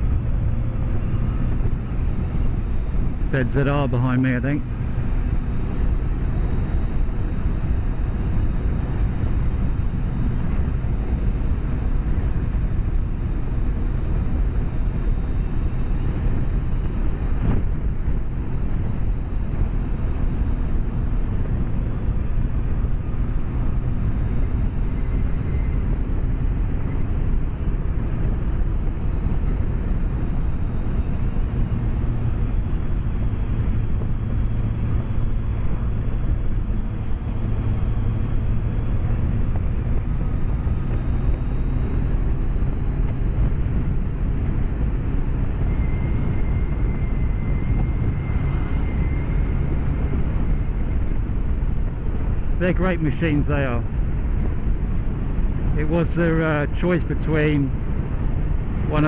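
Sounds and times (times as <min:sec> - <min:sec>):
motorcycle engine running: 0:00.0 - 0:53.1
wind and road noise: 0:00.0 - 0:59.0.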